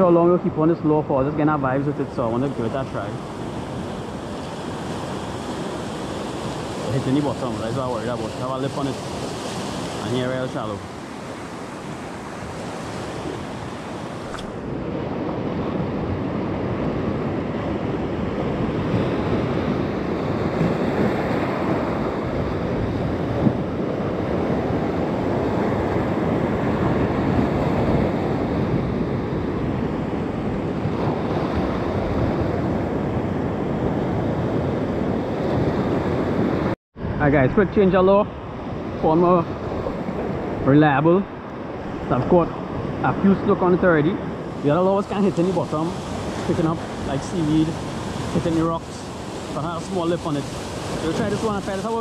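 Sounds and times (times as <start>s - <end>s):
waves breaking on beach: 0.0s - 52.0s
wind on microphone: 0.0s - 52.0s.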